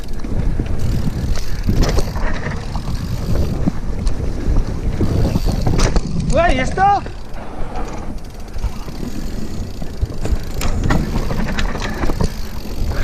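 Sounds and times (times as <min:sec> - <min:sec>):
bike knocks and rattles: 0:00.0 - 0:13.0
rumble of tyres and wind: 0:00.0 - 0:13.0.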